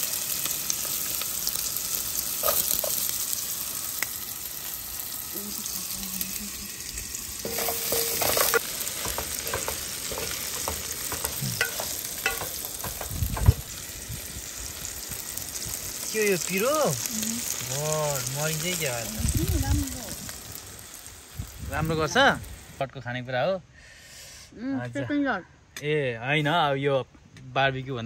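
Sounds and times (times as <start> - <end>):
food sizzling in a pan: 0.0 - 22.9.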